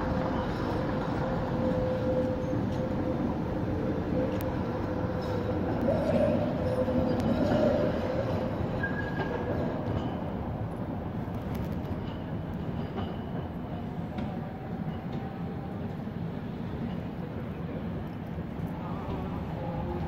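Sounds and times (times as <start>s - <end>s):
tram rumbling on tracks: 0.0s - 20.0s.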